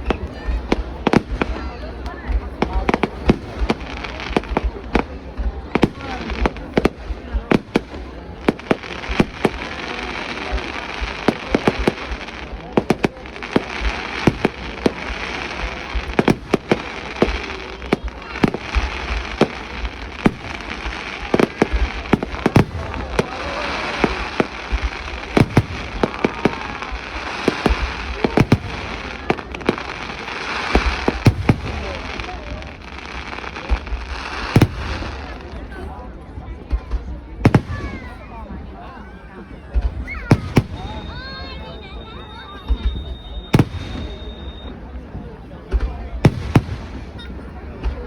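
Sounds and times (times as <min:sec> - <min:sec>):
fireworks bursting bangs: 0:00.0 - 0:48.0.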